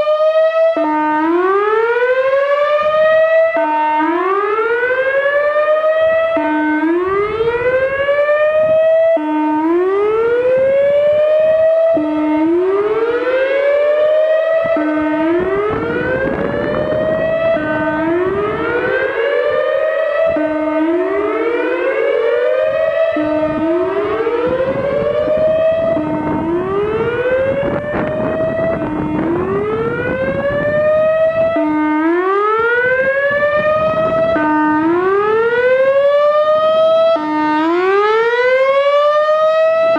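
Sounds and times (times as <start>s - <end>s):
warning siren whooping: 0.0s - 39.9s.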